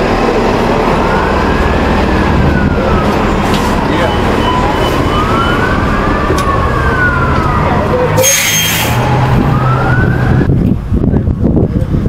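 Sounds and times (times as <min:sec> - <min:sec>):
street traffic rumble: 0:00.0 - 0:12.0
siren wailing: 0:00.2 - 0:10.5.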